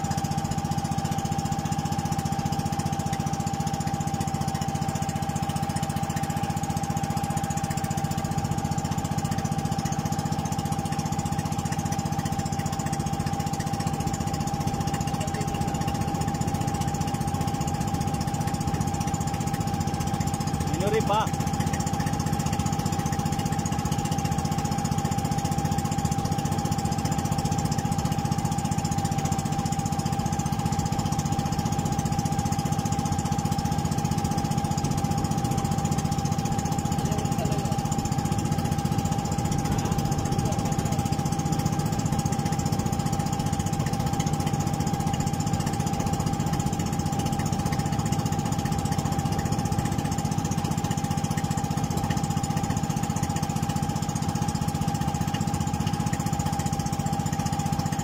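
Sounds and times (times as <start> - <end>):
small boat engine droning: 0.0 - 58.0.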